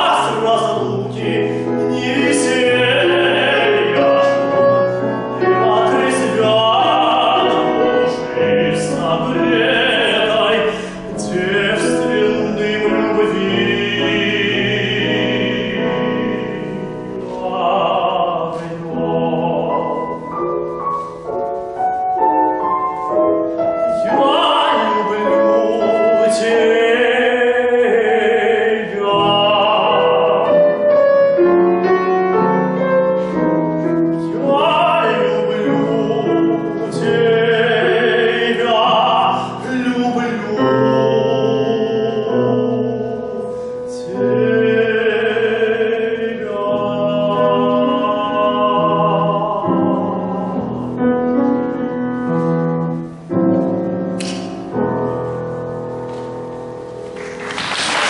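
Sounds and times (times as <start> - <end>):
male opera singer singing: 0.0 - 20.3, 23.9 - 32.5, 34.2 - 51.8
piano accompaniment: 0.0 - 58.0.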